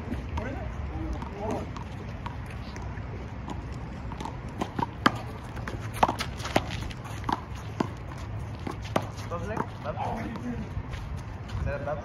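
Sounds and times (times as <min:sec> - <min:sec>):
sneaker footsteps on concrete: 0:01.1 - 0:12.0.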